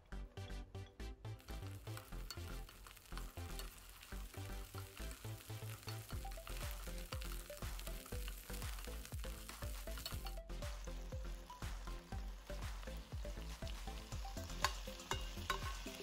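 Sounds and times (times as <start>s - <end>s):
background music with steady beat: 0.0s - 16.0s
garlic sizzling in hot oil: 1.4s - 16.0s
spatula stirring in pan: 1.5s - 16.0s.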